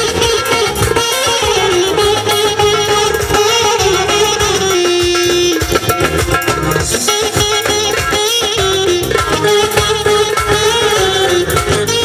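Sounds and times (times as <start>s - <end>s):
folk dance music through speakers: 0.0s - 12.0s.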